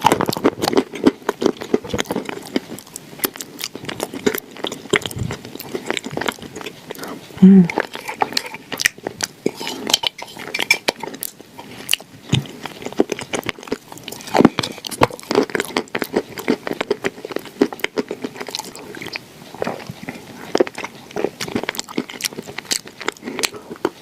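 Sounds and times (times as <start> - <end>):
chewing crunchy food: 0.0 - 24.0.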